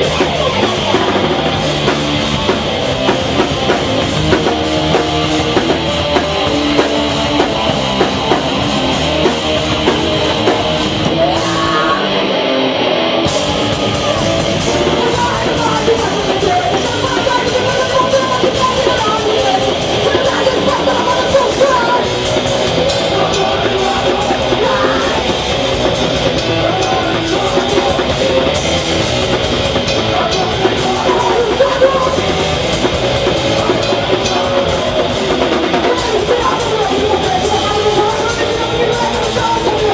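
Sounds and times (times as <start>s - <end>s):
bass guitar: 0.0s - 39.9s
distorted electric guitars: 0.0s - 39.9s
pounding drum kit: 0.0s - 39.9s.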